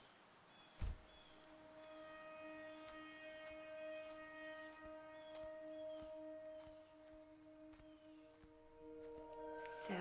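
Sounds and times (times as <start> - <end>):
film score music note: 1.0 - 10.0.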